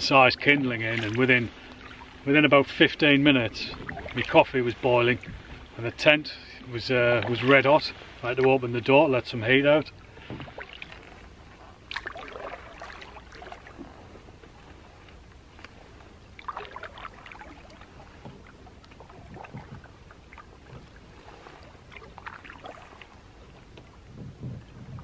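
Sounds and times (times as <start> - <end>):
water trickling off paddle: 0.0 - 8.8, 9.4 - 24.1
canoe paddle strokes in water: 0.0 - 25.0.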